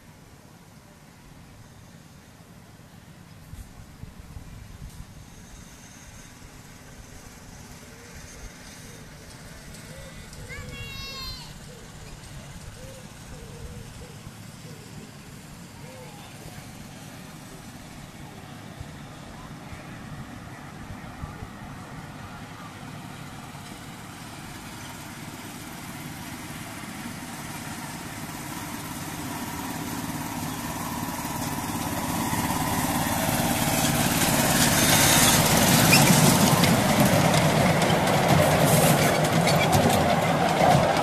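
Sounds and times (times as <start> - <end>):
miniature train passing: 0.0 - 41.0
wheels clicking over rails: 4.8 - 41.0.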